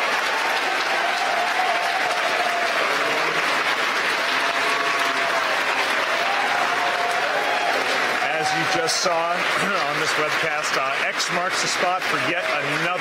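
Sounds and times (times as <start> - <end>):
crowd applauding and cheering: 0.0 - 13.0.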